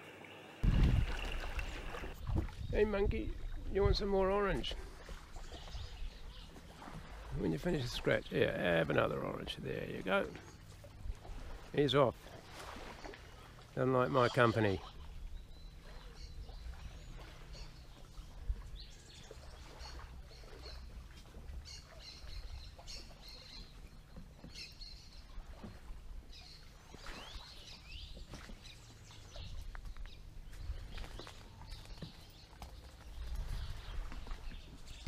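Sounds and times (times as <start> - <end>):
wild birds chirping: 0.0 - 35.0.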